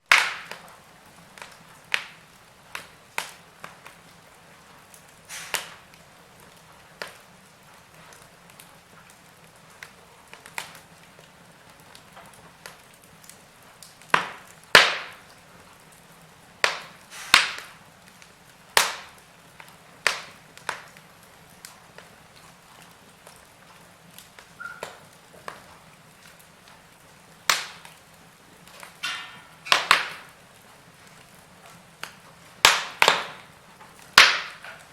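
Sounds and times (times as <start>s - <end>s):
faint steady hiss: 0.0s - 34.9s
wood fire crackling: 0.0s - 34.9s.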